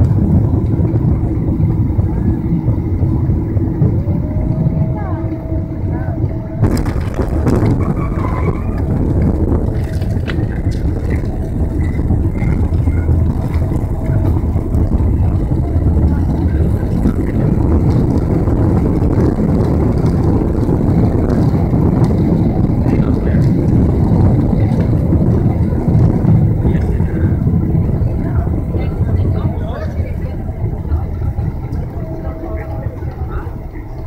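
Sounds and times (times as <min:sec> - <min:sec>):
airplane landing roll rumble: 0:00.0 - 0:34.0.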